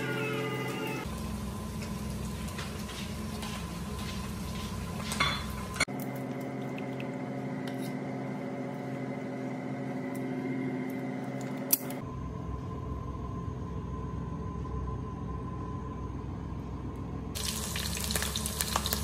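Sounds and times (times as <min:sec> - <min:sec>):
machine hum: 0:00.0 - 0:05.0, 0:05.6 - 0:19.0.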